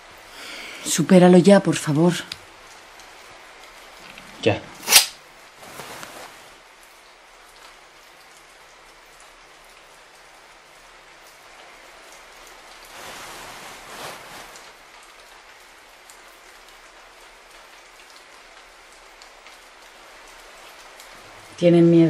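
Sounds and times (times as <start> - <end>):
rain-like hiss with patter: 0.0 - 22.0.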